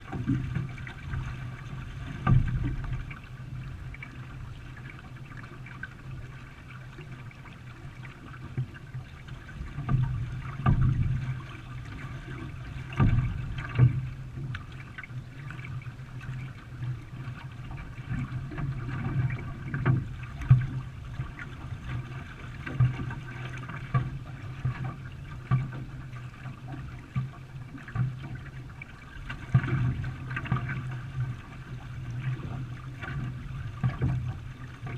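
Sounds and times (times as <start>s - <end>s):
water splashing around canoe: 0.0s - 34.9s.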